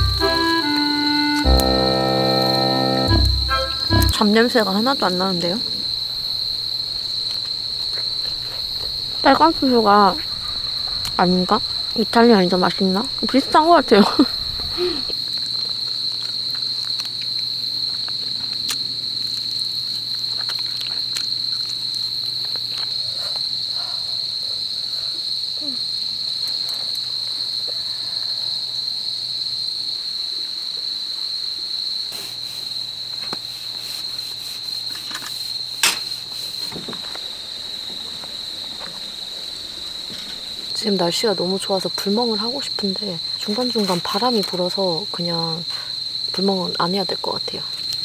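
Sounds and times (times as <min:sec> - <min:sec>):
crickets chirping: 0:00.0 - 0:48.0.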